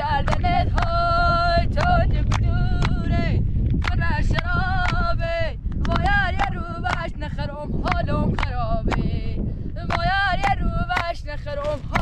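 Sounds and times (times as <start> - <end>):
high voice singing: 0.0 - 12.0
wind rumble on microphone: 0.0 - 12.0.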